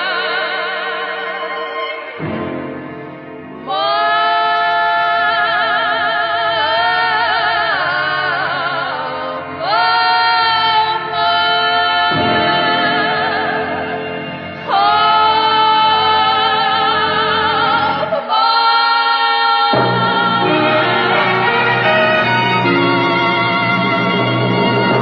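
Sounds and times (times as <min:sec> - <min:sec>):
musical accompaniment: 0:00.0 - 0:18.6, 0:19.7 - 0:25.0
person singing with vibrato: 0:00.0 - 0:25.0.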